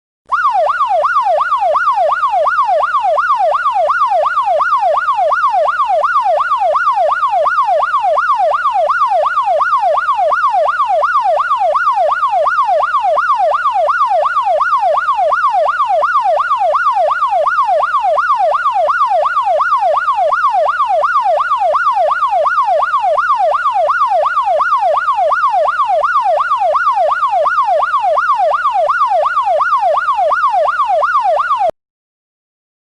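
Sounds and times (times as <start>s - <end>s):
police siren yelp: 0.3s - 31.8s.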